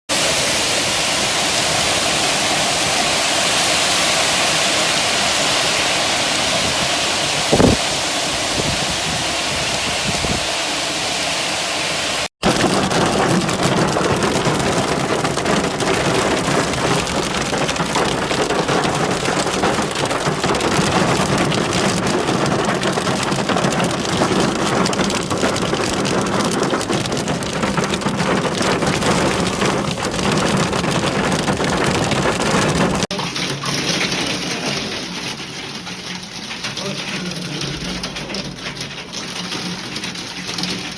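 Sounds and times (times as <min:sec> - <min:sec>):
rain and hail drumming: 0:00.1 - 0:08.0, 0:12.4 - 0:40.9.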